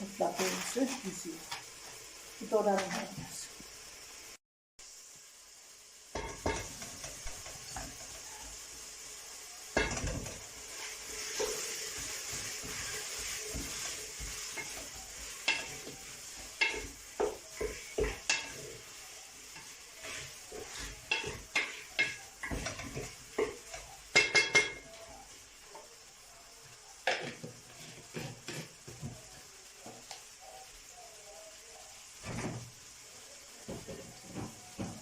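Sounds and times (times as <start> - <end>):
faint sizzle: 0.0 - 35.0.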